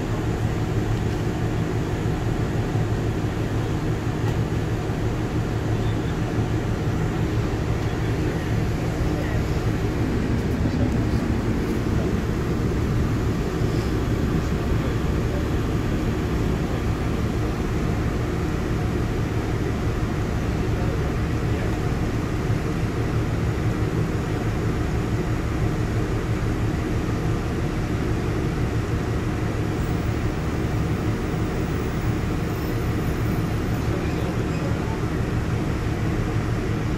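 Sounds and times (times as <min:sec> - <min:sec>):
diesel engine hum: 0:00.0 - 0:36.9
train rumbling on rails: 0:00.0 - 0:36.9.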